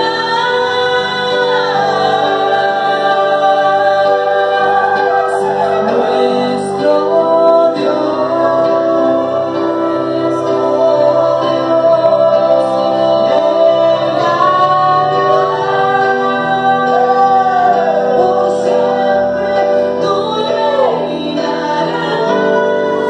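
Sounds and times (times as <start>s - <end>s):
acoustic guitar: 0.0s - 23.0s
keyboard chords: 0.0s - 23.0s
women and men singing: 0.0s - 23.0s.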